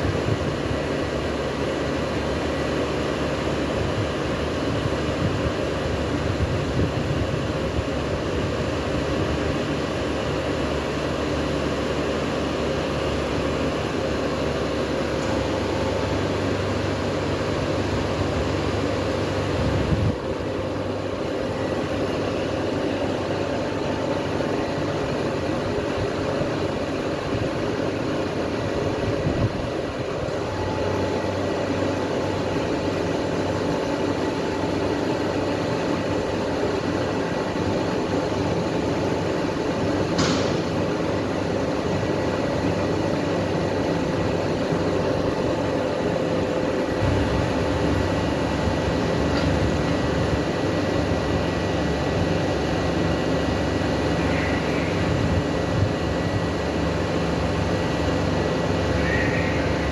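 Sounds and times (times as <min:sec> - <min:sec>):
train idling mechanical hum: 0:00.0 - 0:59.9.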